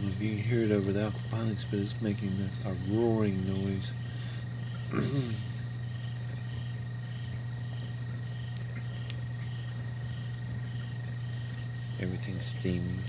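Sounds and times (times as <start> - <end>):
heater roaring: 0.0 - 13.0
low machine hum: 0.0 - 13.0.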